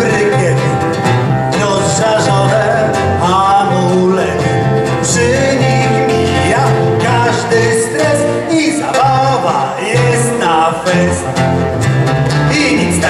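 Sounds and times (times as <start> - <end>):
acoustic guitars: 0.0 - 13.0
upright electric bass: 0.0 - 13.0.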